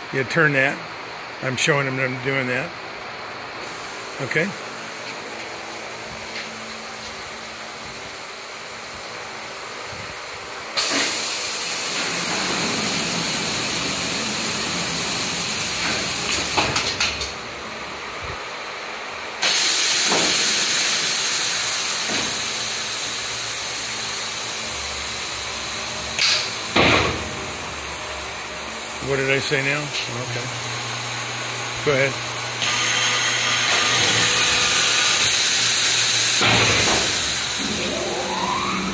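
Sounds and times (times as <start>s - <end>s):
loud rush of hissing air: 3.6s - 38.9s.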